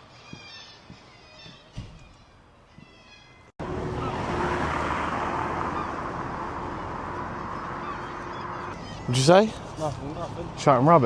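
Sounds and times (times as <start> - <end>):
gulls mewing: 0.1 - 10.6.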